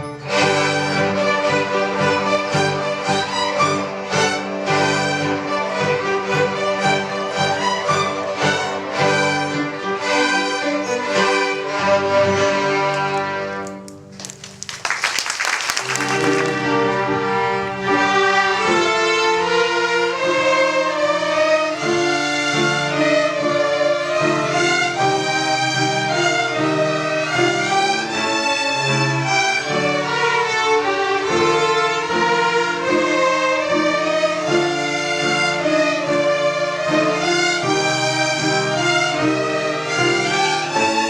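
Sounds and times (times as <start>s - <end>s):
violin melody: 0.0s - 14.1s, 15.9s - 41.0s.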